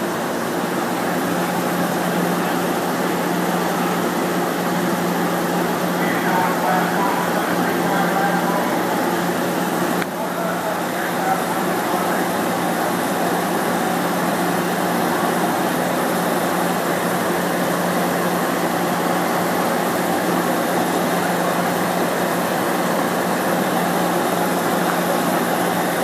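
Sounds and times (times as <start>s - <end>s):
fan noise: 0.0s - 26.0s.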